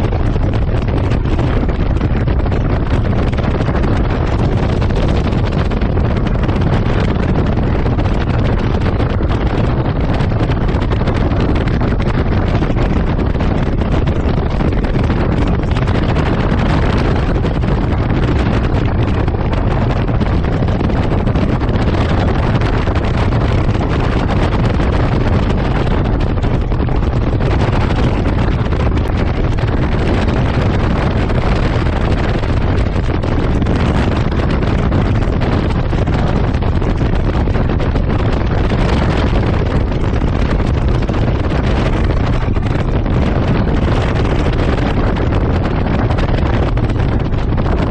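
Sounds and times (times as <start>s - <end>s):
wind noise on microphone: 0.0s - 47.9s.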